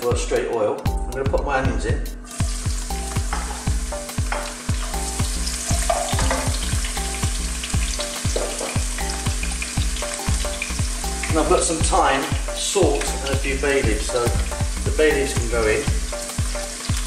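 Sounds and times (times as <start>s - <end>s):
onions sizzling in oil: 2.2s - 17.0s.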